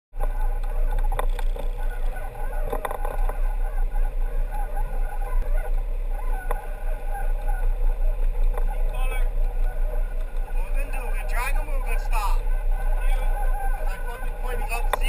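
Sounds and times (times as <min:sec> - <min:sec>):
boat engine rumbling: 0:00.2 - 0:15.0.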